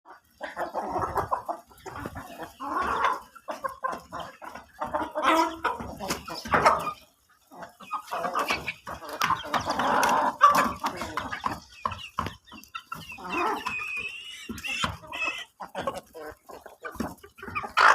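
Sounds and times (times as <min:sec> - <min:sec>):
chickens clucking: 0:00.1 - 0:17.9.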